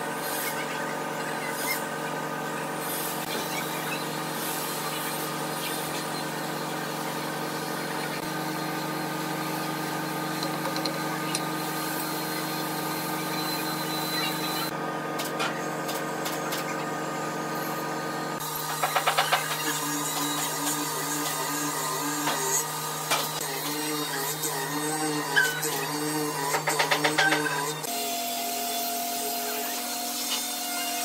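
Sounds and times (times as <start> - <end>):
grinder motor humming: 0.0 - 31.0.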